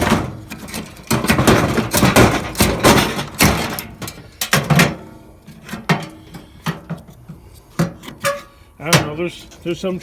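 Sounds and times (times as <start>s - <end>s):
metal knocks and clatter: 0.0s - 9.2s.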